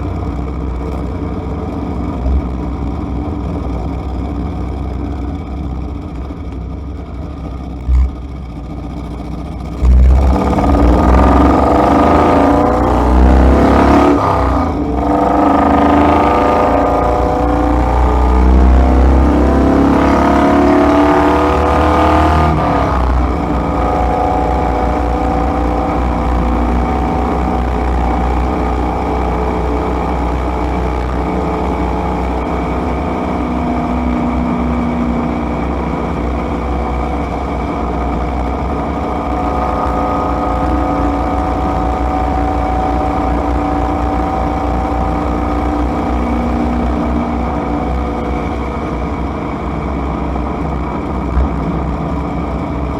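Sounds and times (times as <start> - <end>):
engine and drivetrain tones: 0.0 - 52.9
vehicle cabin driving rumble: 0.0 - 52.9.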